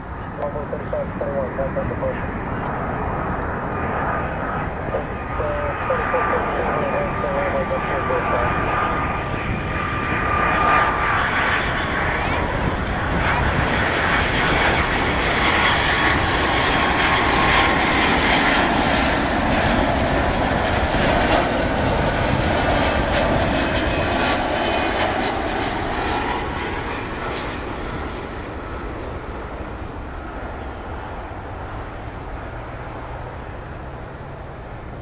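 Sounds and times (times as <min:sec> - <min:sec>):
jet airliner passing by: 0:00.0 - 0:35.0.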